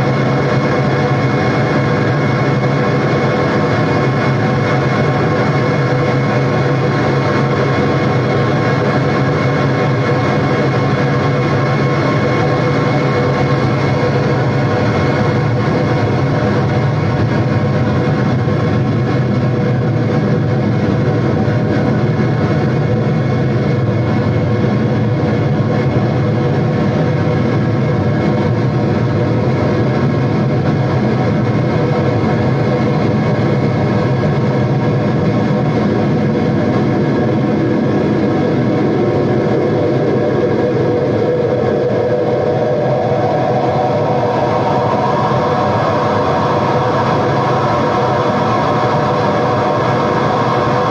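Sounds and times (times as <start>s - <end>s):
droning electronic noise music: 0.0s - 50.9s
higher drone: 0.0s - 50.9s.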